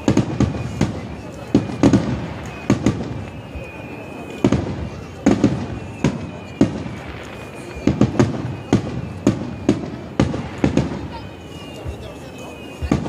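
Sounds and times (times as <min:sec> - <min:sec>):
faint high whistle: 0:00.0 - 0:13.0.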